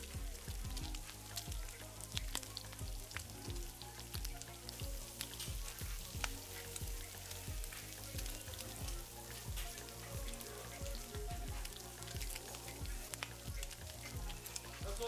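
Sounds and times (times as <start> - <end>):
background music with steady beat: 0.0 - 15.0
meatballs sizzling on a grill: 0.0 - 15.0.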